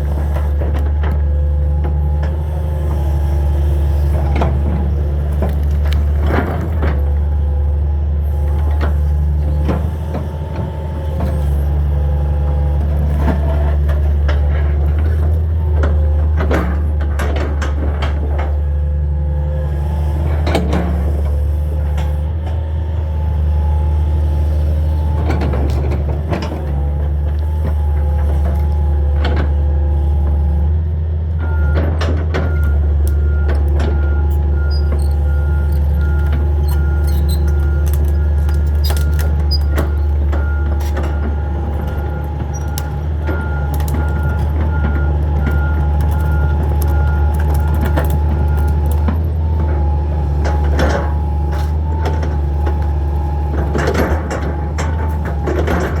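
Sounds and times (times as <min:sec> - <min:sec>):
excavator diesel engine running: 0:00.0 - 0:56.0
hydraulics whining: 0:00.0 - 0:56.0.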